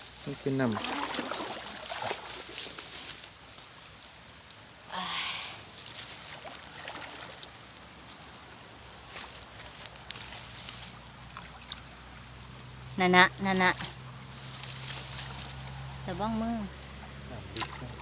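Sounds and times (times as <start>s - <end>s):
water sloshing from wading: 0.0s - 4.3s, 5.7s - 18.0s.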